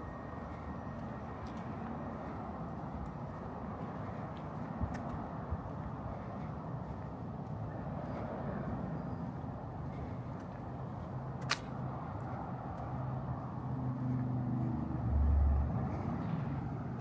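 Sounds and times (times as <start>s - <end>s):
low hum of road traffic: 0.0s - 17.0s.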